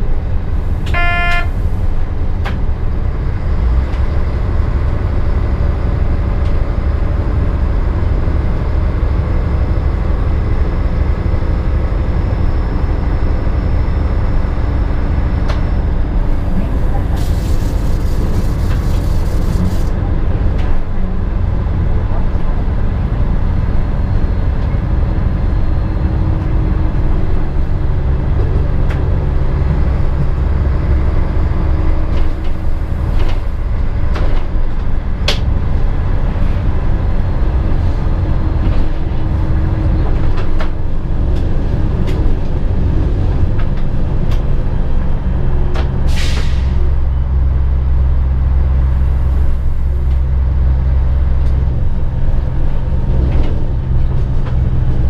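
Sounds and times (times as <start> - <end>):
railcar diesel engine drone: 0.0 - 55.0
wheel-on-rail rumble: 0.0 - 55.0.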